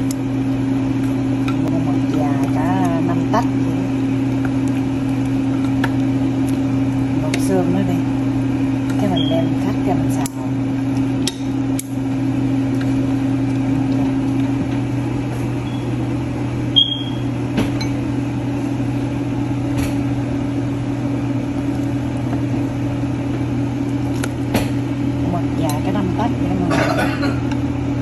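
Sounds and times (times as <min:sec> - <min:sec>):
appliance motor hum: 0:00.0 - 0:28.0.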